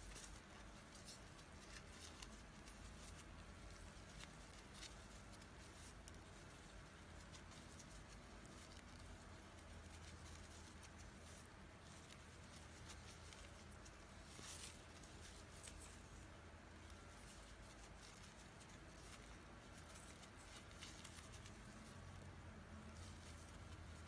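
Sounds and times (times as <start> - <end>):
yarn crinkling through stitches: 0.0 - 24.0
yarn rustle: 0.0 - 24.0.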